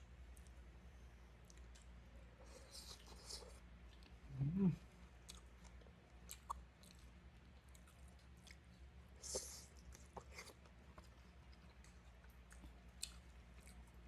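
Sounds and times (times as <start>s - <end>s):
chewing and mouth clicks: 1.4s - 4.2s, 5.2s - 14.0s.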